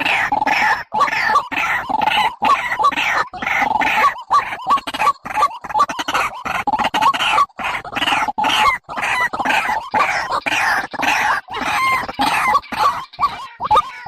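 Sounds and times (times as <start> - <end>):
harsh bird calls: 0.0 - 14.0.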